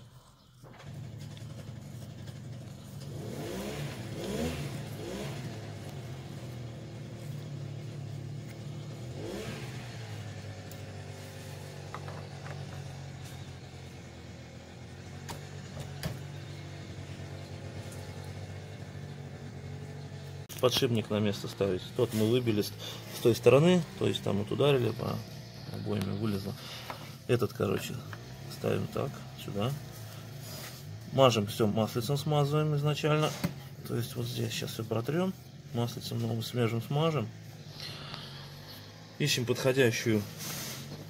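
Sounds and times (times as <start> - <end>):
engine humming and revving: 0.0 - 41.0.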